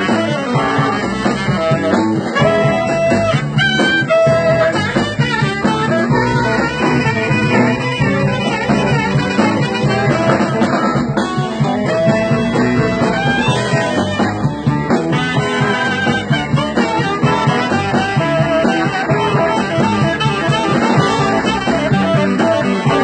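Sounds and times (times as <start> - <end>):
blues band playing live: 0.0 - 23.0.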